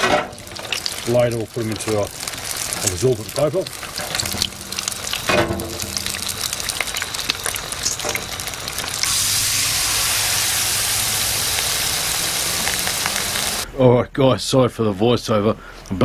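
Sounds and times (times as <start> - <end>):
fish frying in hot oil: 0.0 - 13.6.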